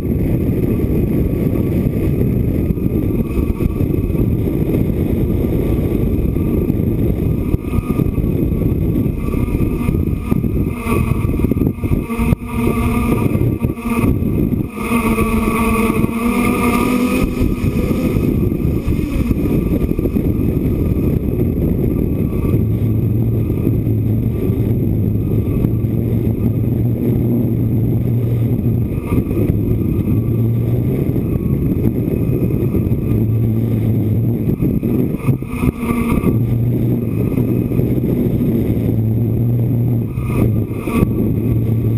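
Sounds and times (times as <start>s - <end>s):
drone propellers buzzing: 0.0s - 41.9s
wind rumbling on microphone: 0.0s - 41.9s.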